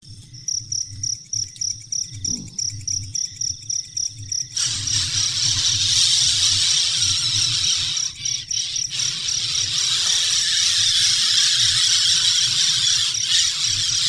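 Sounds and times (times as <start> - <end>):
insects chirping rhythmically: 0.0 - 14.0
loud continuous buzz: 0.0 - 14.0.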